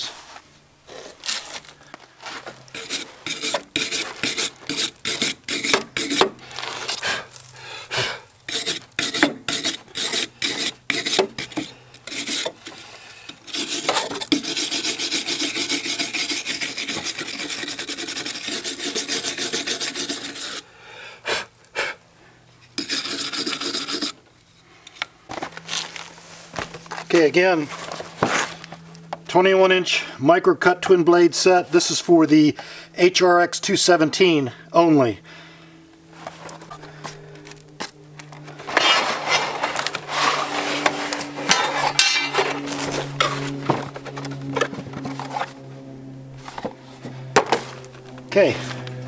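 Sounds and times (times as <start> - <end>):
hand tool rasping: 0.9 - 20.7, 22.6 - 29.2, 35.9 - 49.0.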